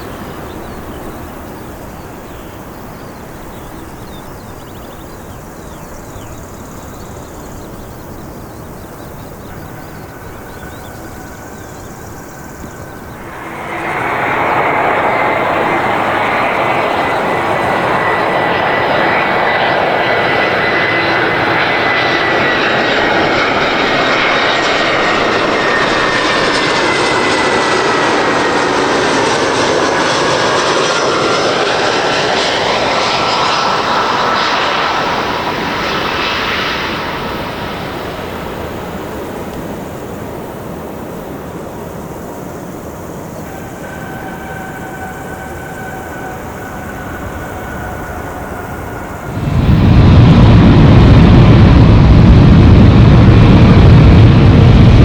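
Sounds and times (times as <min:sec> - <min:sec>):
faint engine whine: 0:00.0 - 0:55.0
jet engines passing: 0:00.0 - 0:55.0.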